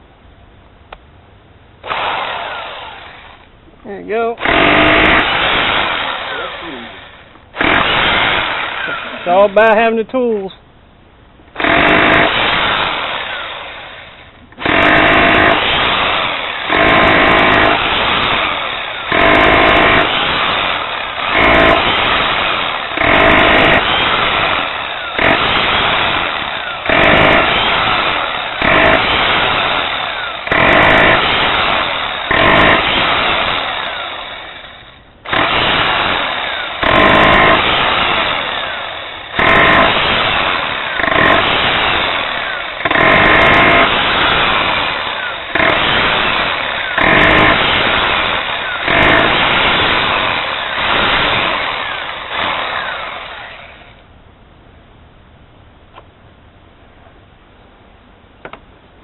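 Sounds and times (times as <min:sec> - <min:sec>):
power tool motor bursts: 0:01.8 - 0:03.5, 0:04.4 - 0:09.5, 0:11.6 - 0:54.0.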